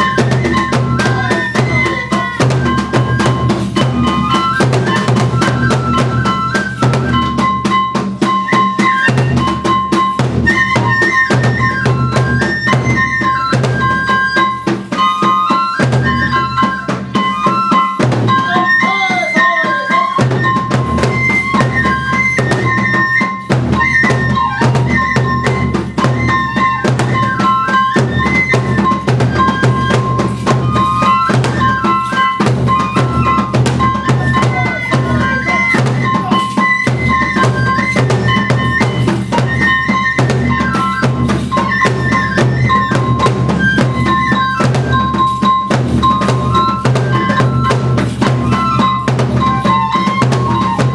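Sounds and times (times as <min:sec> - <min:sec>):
fast steady drum beat: 0:00.0 - 0:15.1, 0:18.0 - 0:50.9
bamboo flute melody: 0:00.0 - 0:50.9.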